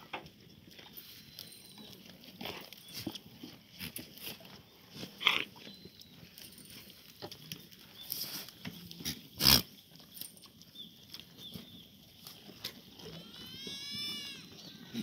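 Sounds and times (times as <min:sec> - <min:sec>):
goats scuffing and clicking: 0:00.0 - 0:15.0.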